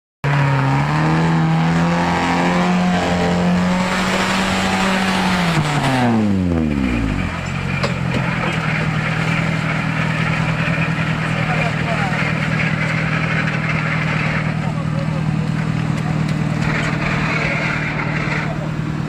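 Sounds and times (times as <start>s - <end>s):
vehicle engine revving: 0.2s - 19.0s.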